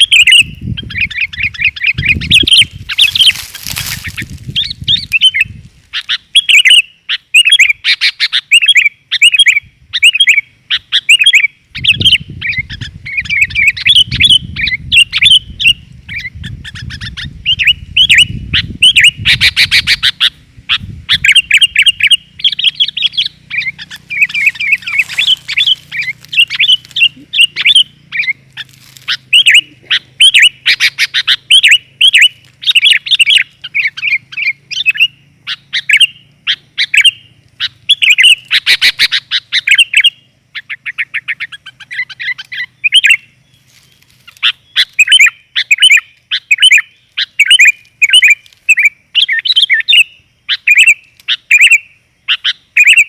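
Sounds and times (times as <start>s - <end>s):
bird chirping and chattering: 0.0s - 53.0s.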